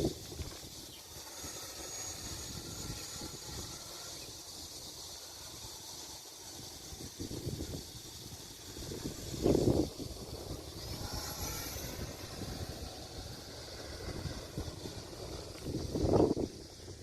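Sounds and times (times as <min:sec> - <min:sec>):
wind gusting on microphone: 0:00.0 - 0:05.7, 0:06.5 - 0:17.0.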